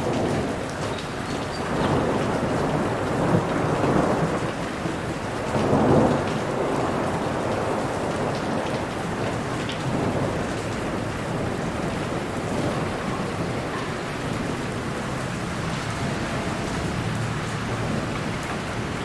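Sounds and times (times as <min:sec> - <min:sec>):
distant thunder rumble: 0:00.0 - 0:19.0
steady rain falling: 0:00.0 - 0:19.0.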